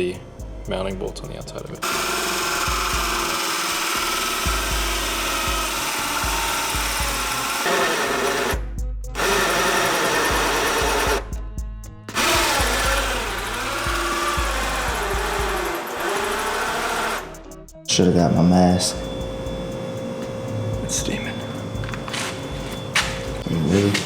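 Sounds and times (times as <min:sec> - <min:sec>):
background music: 0:00.0 - 0:24.0
electric drill boring through metal: 0:01.8 - 0:11.3, 0:12.1 - 0:17.5, 0:18.1 - 0:24.0.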